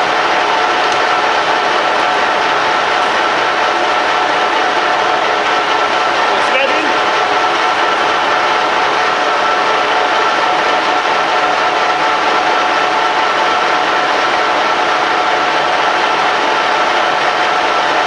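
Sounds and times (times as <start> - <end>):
lathe running with whine: 0.0 - 18.0.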